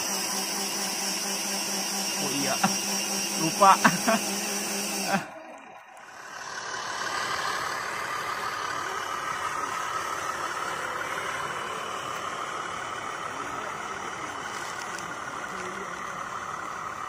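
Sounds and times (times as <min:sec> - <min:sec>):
toy truck motor whirring: 0:00.0 - 0:17.0.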